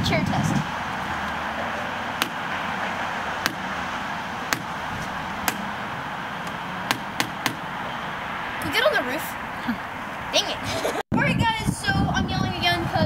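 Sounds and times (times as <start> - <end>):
highway traffic hum: 0.0 - 13.0.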